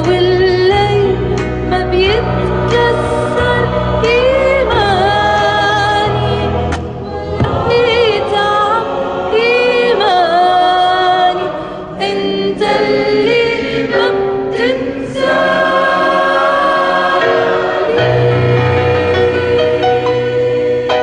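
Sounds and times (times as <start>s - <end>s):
church choir singing: 1.9s - 21.0s.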